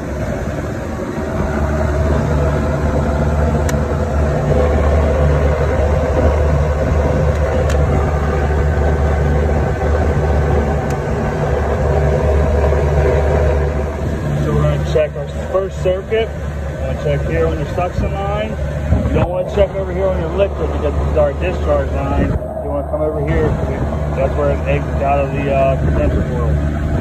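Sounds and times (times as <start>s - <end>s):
rooftop air conditioner hum: 0.0s - 27.0s.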